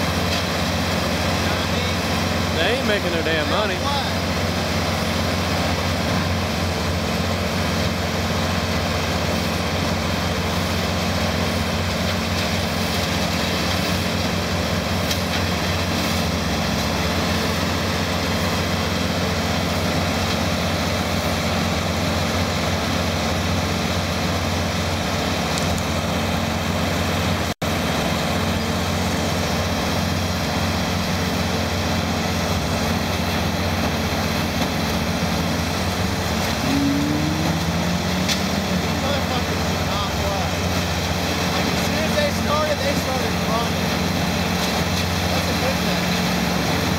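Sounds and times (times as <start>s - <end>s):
heavy equipment engine running: 0.0s - 46.9s.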